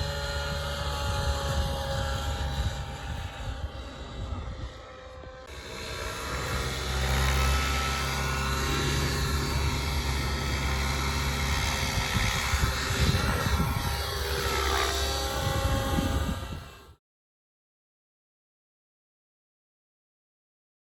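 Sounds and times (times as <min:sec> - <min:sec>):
model helicopter rotor whine: 0:00.0 - 0:17.0.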